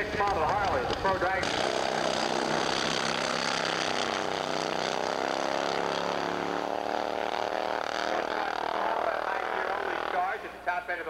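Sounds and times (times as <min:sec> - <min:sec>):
motorcycle engine running hard: 0:00.0 - 0:10.6.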